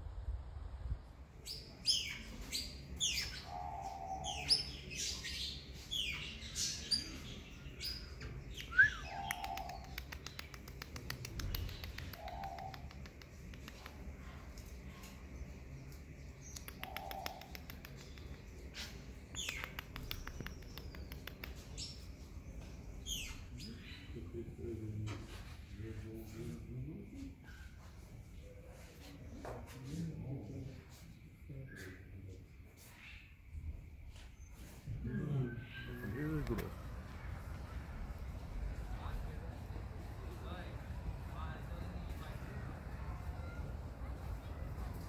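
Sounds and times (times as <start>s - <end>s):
birds chirping: 1.4s - 25.0s, 31.5s - 45.0s.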